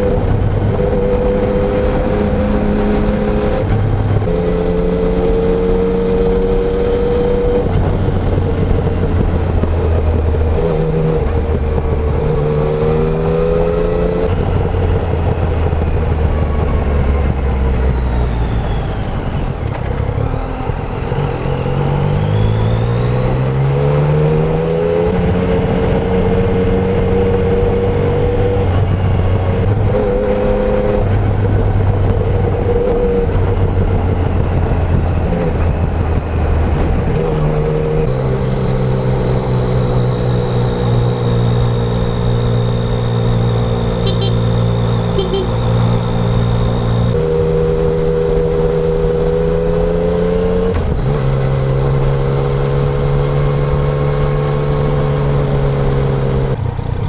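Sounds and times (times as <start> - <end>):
motorcycle engine running: 0.0 - 22.8, 24.4 - 49.5
wind noise: 0.0 - 57.0.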